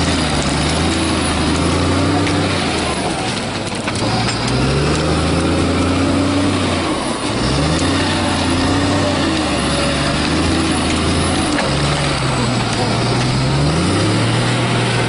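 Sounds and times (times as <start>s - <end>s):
chained tyres driving: 0.0s - 15.0s
diesel engine running: 0.0s - 15.0s.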